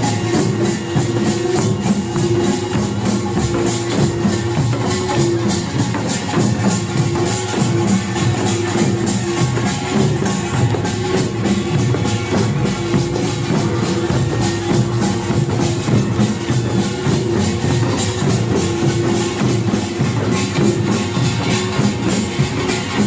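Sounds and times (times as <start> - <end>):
drums: 0.0 - 23.0
hourglass drums: 0.0 - 23.0
large gongs: 0.0 - 23.0.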